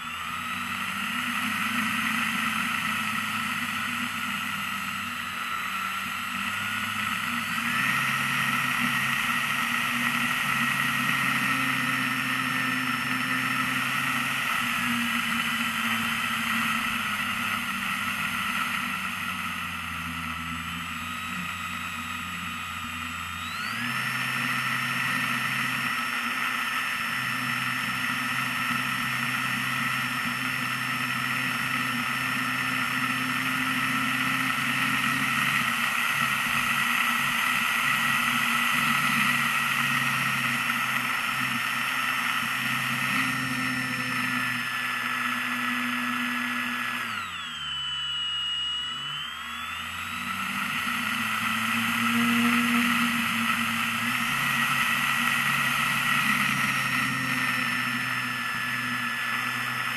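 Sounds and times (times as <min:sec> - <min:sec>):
model airplane motor whine: 0:00.0 - 0:59.9.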